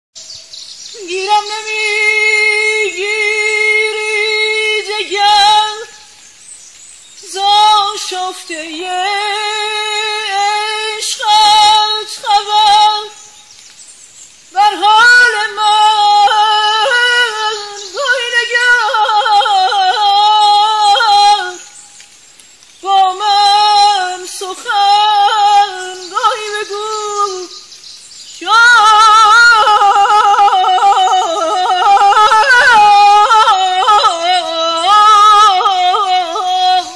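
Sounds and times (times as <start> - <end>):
woman singing unaccompanied: 0.9 - 6.2, 7.2 - 13.4, 14.5 - 21.9, 22.8 - 27.7, 28.3 - 36.9.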